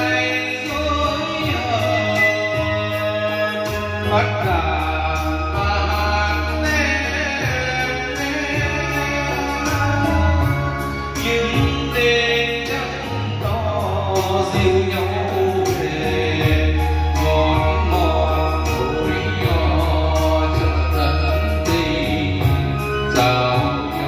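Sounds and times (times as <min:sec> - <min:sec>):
instrumental backing track: 0:00.0 - 0:24.0
man singing into microphone: 0:00.0 - 0:24.0.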